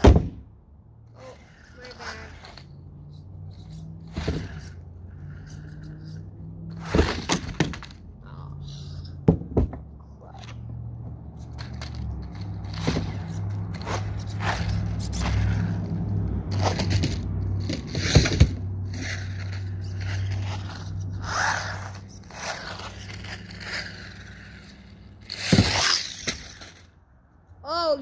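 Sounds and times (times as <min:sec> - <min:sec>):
rc car motor hum: 0:01.0 - 0:09.2, 0:10.1 - 0:27.0
scraping on concrete: 0:01.1 - 0:27.0.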